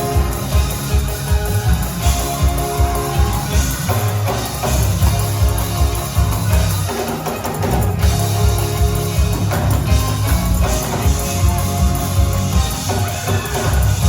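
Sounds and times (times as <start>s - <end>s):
drum kit steady beat: 0.0s - 14.0s
gospel band playing: 0.0s - 14.0s.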